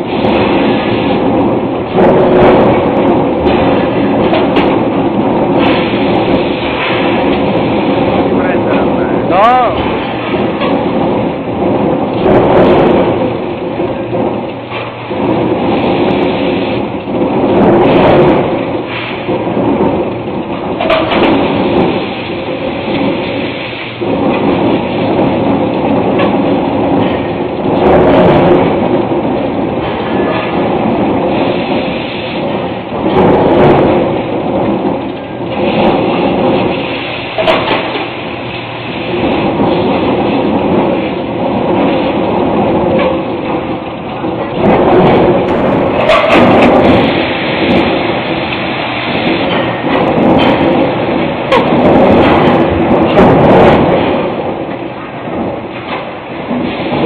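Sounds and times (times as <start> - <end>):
forging press heavy strikes: 0.0 - 57.0
machinery clatter and hum: 0.0 - 57.0.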